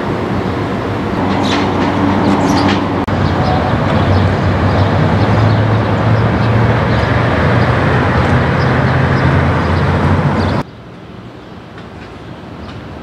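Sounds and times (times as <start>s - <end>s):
bus diesel engine running: 0.0s - 10.6s
street traffic noise: 0.0s - 13.0s.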